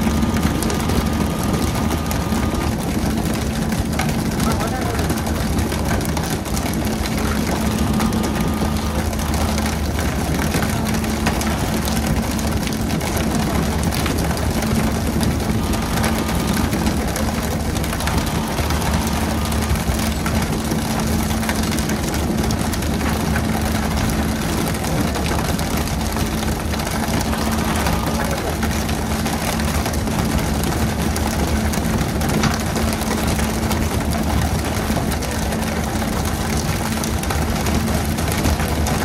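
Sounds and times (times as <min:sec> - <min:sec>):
boat engine humming: 0:00.0 - 0:39.0.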